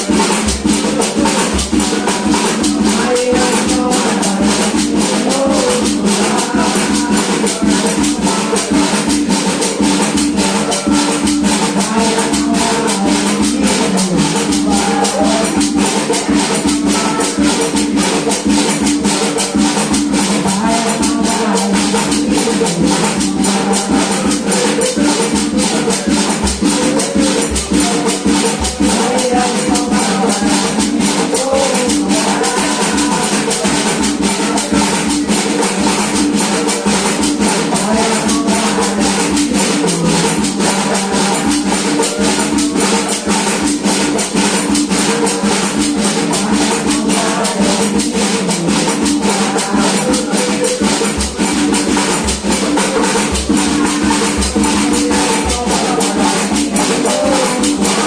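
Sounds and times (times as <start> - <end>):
drum beating: 0.0 - 58.0
maracas shaking: 0.0 - 58.0
person singing: 0.0 - 58.0.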